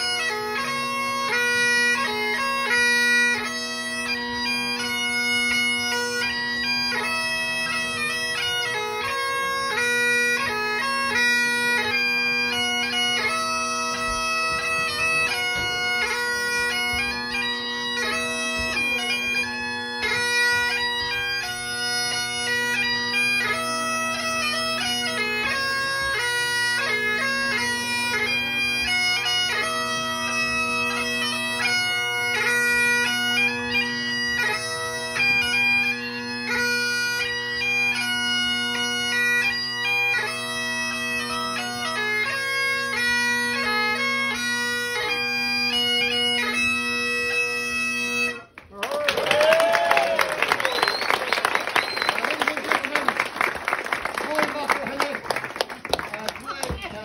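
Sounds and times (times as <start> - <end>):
bagpipe dance tune: 0.0 - 57.0.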